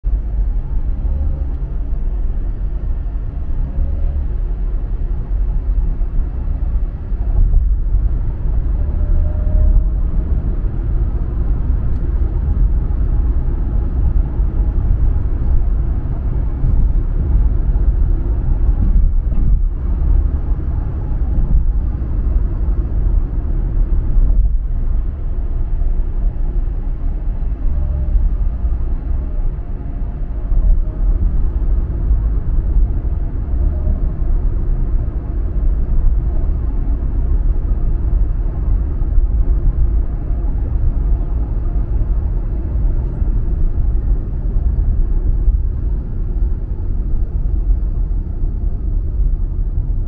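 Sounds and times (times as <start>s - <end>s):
car road and engine rumble: 0.0s - 50.0s.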